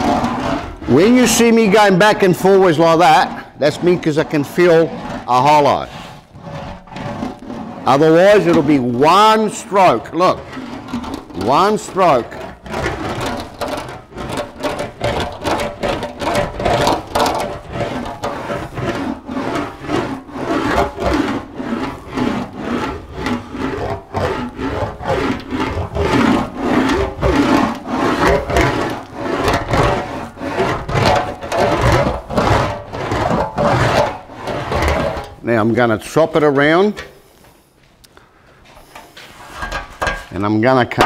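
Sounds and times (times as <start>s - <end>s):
metal wheel rolling on sheet metal: 0.0s - 37.3s, 38.8s - 41.0s.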